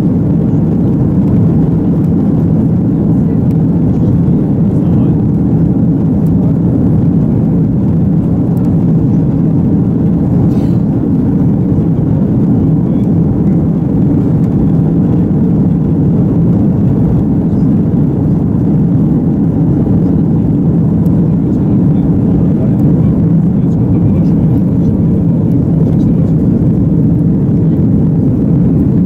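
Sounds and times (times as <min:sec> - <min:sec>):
jet engine drone in cabin: 0:00.0 - 0:29.0.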